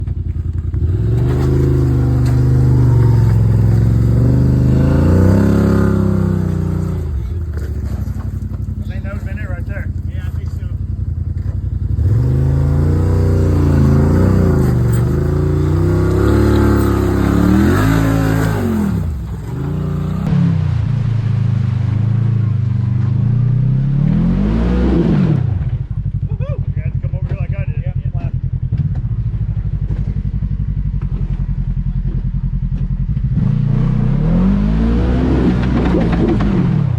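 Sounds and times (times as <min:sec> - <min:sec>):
utv engine revving: 0:00.0 - 0:36.9.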